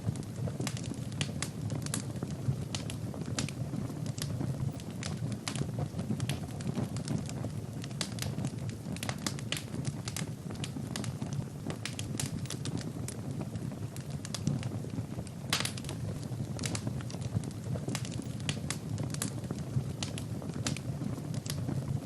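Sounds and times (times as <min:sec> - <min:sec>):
low rumble of flame: 0:00.0 - 0:22.0
wood fire crackling and popping: 0:00.0 - 0:22.0.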